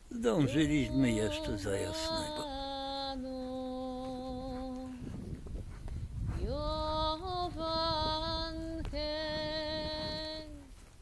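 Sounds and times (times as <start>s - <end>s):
woman singing folk song: 0.4s - 5.4s, 6.3s - 11.0s.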